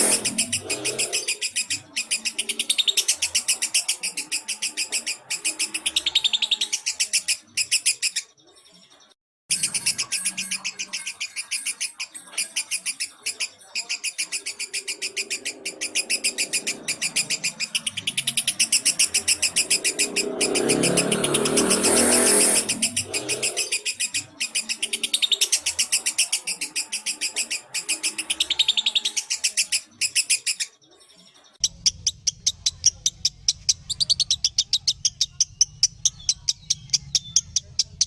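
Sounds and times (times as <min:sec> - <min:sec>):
lovebird chattering high chirps: 0:00.0 - 0:08.3, 0:09.5 - 0:30.8, 0:31.6 - 0:38.0.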